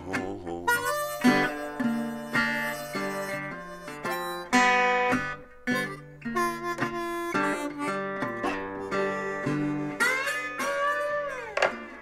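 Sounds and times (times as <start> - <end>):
slide guitar blues phrase: 0.0 - 12.0.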